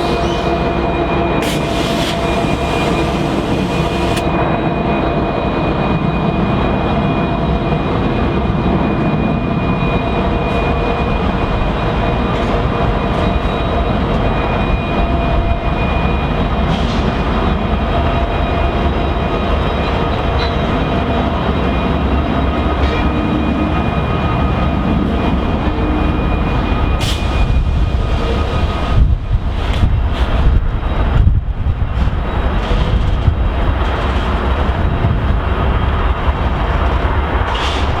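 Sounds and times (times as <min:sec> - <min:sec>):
train rumbling on track: 0:00.0 - 0:38.0.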